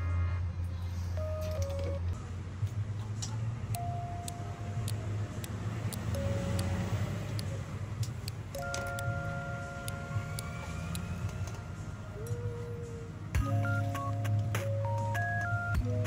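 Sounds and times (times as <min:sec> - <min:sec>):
quiet background music: 0:00.0 - 0:16.0
road vehicle passing: 0:00.0 - 0:16.0.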